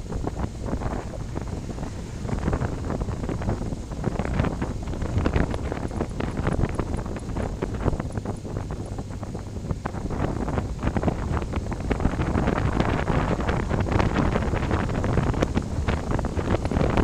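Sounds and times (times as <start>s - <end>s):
motorcycle engines rumbling: 0.0s - 17.0s
wind buffeting microphone: 0.0s - 17.0s.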